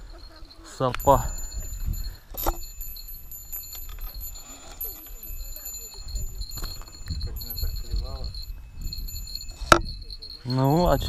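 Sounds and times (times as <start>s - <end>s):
handling noise: 0.0s - 10.1s
thin high-pitched tones: 0.0s - 11.0s.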